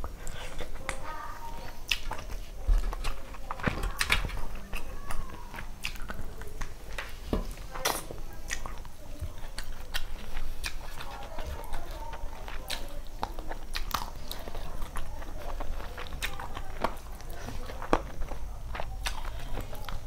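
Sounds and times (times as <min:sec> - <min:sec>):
chewing and mouth smacking: 0:00.0 - 0:20.0.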